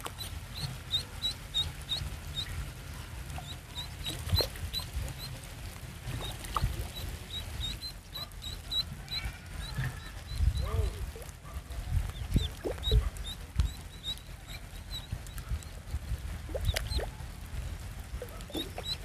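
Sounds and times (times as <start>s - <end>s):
duckling peeping: 0.0s - 19.0s.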